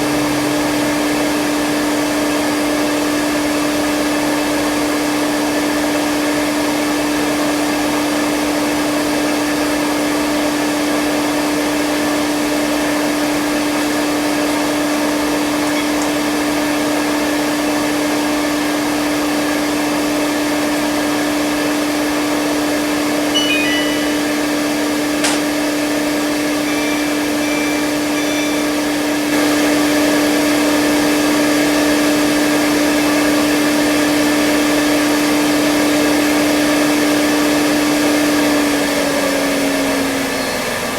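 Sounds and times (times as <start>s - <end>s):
washing machine spinning: 0.0s - 22.4s, 23.4s - 40.9s.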